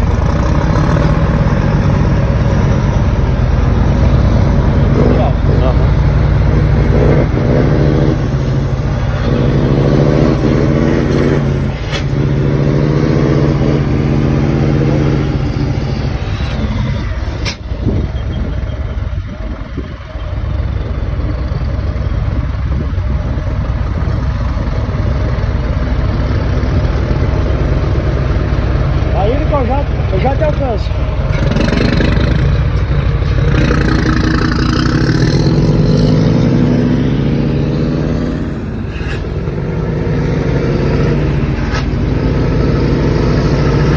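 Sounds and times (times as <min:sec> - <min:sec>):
diesel truck engine revving: 0:00.0 - 0:43.9.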